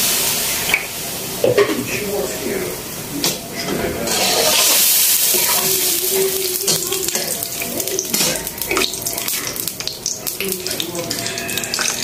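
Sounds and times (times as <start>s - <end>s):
meat sizzling in a wok: 0.0s - 3.2s, 4.0s - 12.0s.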